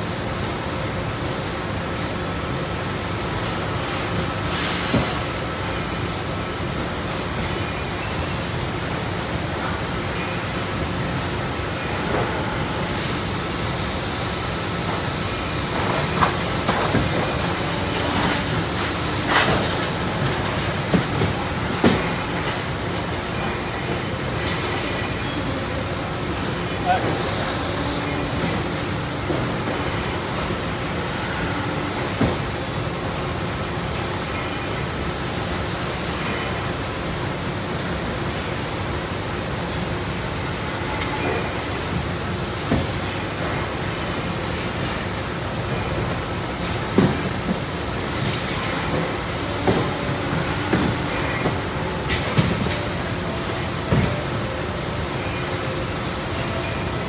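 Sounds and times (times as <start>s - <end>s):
overhead conveyor machinery noise: 0.0s - 57.0s
production line noise: 0.0s - 57.0s.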